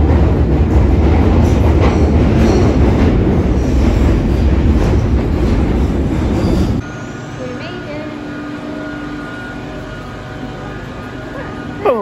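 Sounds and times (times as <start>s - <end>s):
train wheels rumbling on track: 0.0s - 11.3s.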